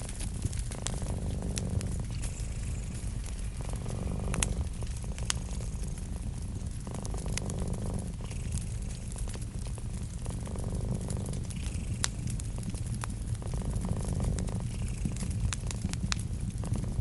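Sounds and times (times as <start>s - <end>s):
cat purring: 0.0s - 17.0s
wood fire crackling and popping: 0.0s - 17.0s.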